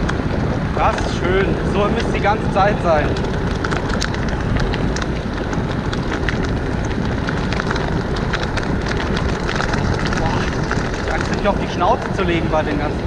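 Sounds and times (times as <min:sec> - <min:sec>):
bike tyre and wind rush: 0:00.0 - 0:13.0
small crackles and ticks: 0:00.0 - 0:13.0.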